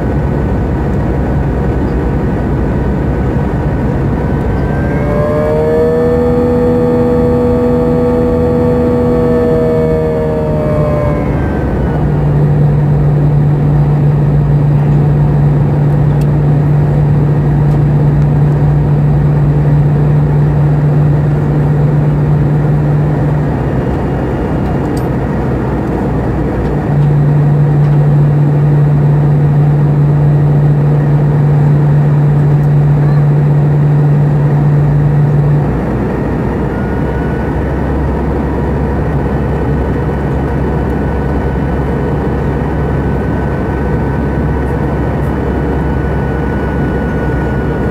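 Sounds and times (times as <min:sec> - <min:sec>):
deeper hum: 0:00.0 - 0:47.9
jet engine drone: 0:00.0 - 0:47.9.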